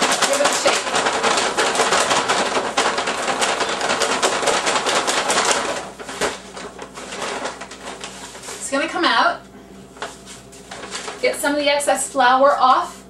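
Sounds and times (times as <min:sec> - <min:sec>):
paper bag crinkling and rustling: 0:00.0 - 0:09.0, 0:10.0 - 0:11.5.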